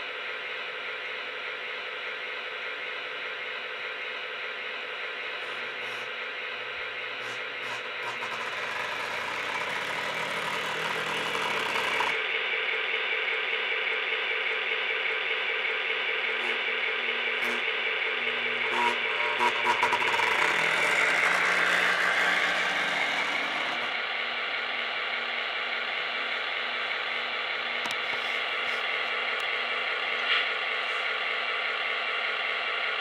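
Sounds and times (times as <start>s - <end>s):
model train motor whine: 1.9s - 30.1s.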